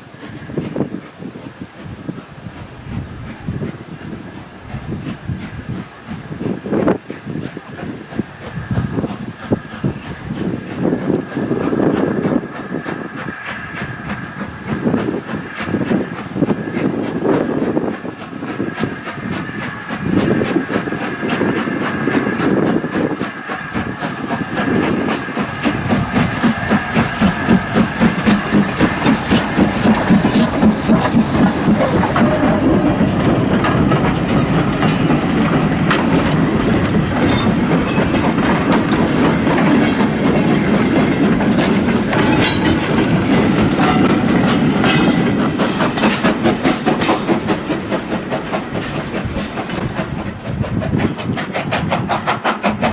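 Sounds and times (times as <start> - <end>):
steam train rhythmic chuffing: 0.0 - 52.9.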